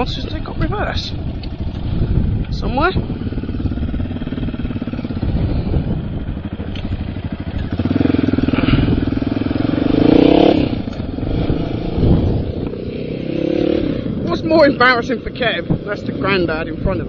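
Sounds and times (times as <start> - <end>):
quad bike engine: 0.0 - 17.0.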